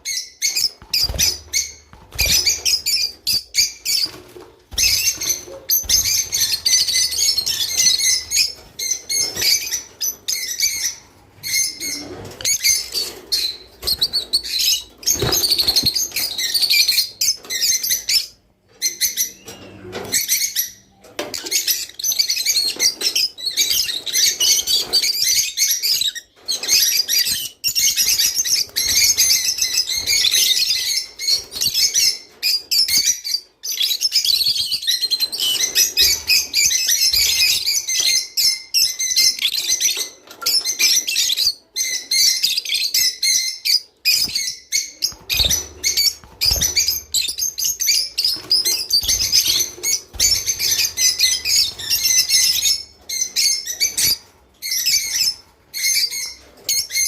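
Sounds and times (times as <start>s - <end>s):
lovebirds chirping and chattering: 0.0s - 57.0s.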